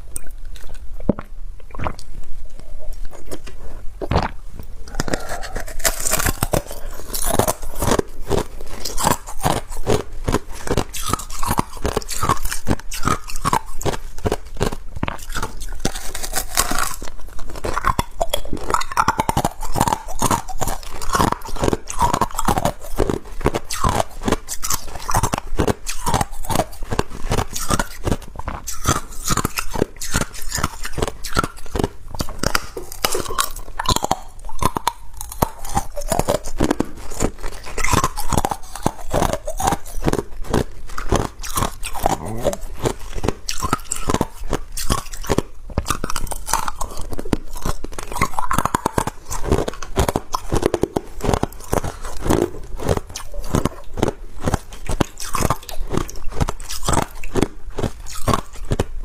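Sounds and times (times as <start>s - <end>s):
ice being chewed crunching: 0.0s - 59.0s.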